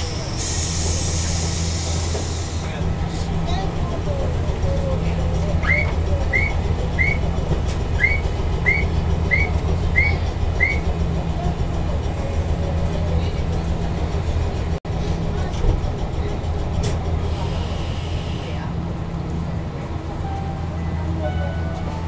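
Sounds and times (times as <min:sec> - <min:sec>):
tram humming: 0:00.0 - 0:22.0.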